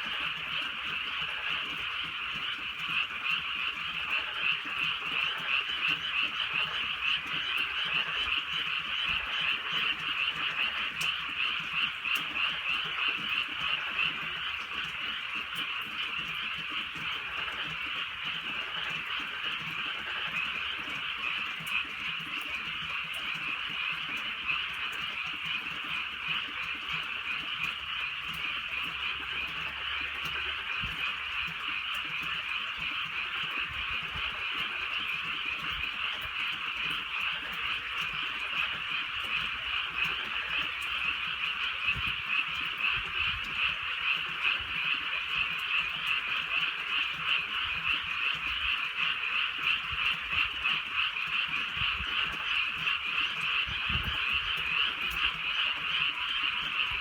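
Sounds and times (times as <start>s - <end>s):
chorus of frogs trilling: 0.0s - 57.0s.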